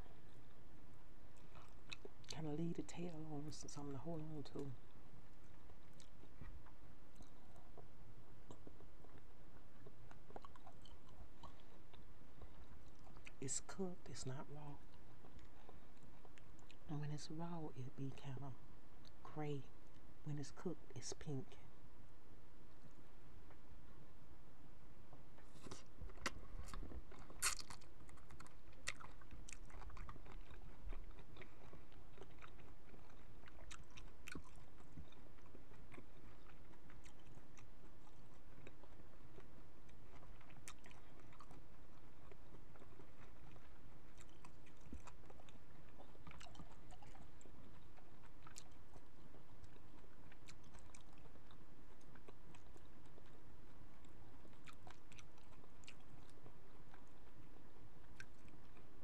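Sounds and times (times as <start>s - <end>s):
chewing with wet mouth clicks: 1.3s - 13.4s, 14.8s - 16.9s, 25.1s - 59.0s.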